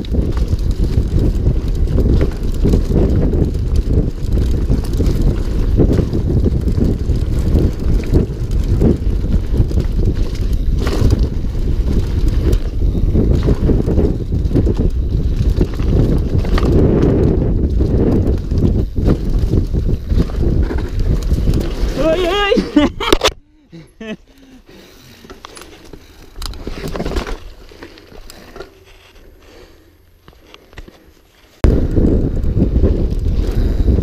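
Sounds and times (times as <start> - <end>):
wind buffeting microphone: 0.0 - 25.2, 31.6 - 34.0.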